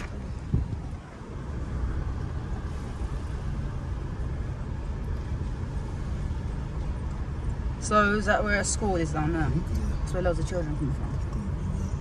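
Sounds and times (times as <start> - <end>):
road noise: 0.0 - 12.0
vehicle engine rumble: 0.0 - 12.0.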